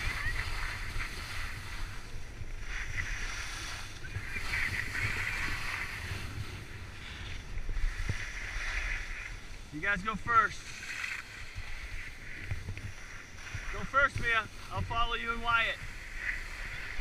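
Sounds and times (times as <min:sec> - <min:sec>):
skis scraping on snow: 0:00.0 - 0:17.0
wind buffeting microphone: 0:00.0 - 0:17.0.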